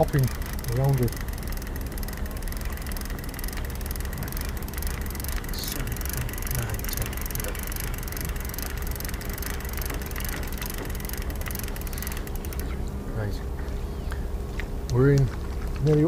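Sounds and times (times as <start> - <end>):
fishing reel ticking: 0.0 - 12.9.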